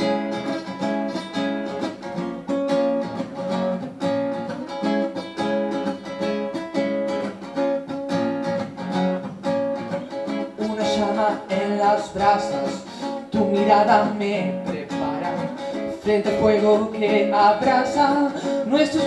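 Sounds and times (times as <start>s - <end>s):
guitar strumming: 0.0s - 19.0s.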